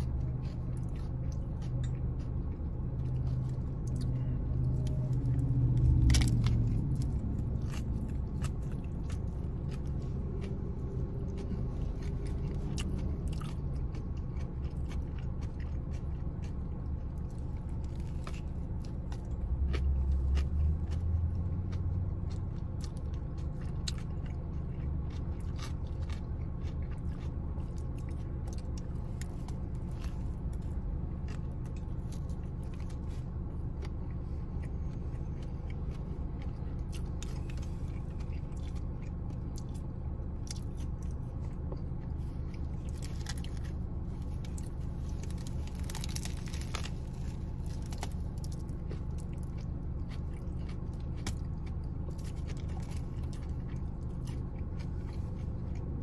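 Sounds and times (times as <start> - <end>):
chewing sandwich: 0.0 - 56.0
low rumble: 0.0 - 56.0.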